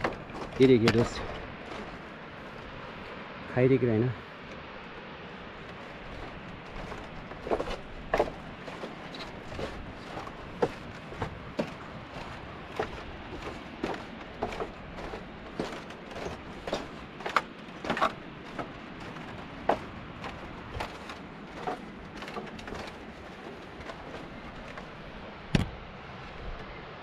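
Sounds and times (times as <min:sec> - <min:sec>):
footsteps on bamboo walkway: 0:00.0 - 0:03.2, 0:04.6 - 0:25.5
steady background noise: 0:00.0 - 0:27.0.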